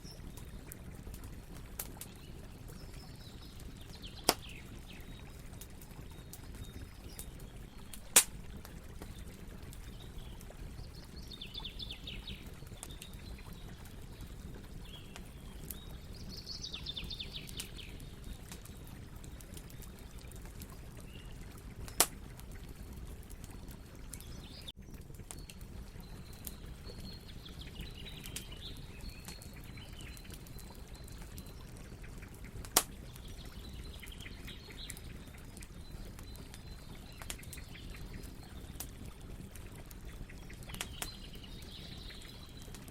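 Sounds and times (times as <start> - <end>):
campfire crackling: 0.0 - 42.9
fire popping: 0.0 - 42.9.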